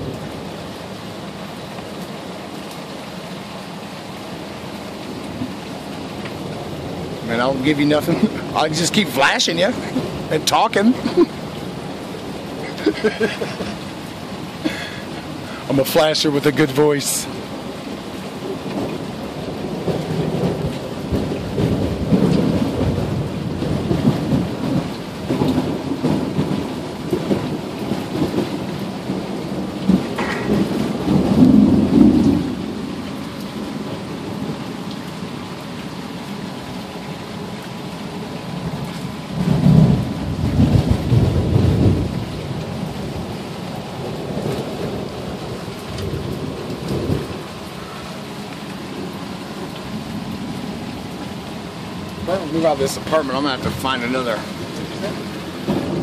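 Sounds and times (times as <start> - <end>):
thunder rumbling: 0.0 - 2.4, 4.3 - 35.4, 37.8 - 56.0
steady rain falling: 0.0 - 56.0.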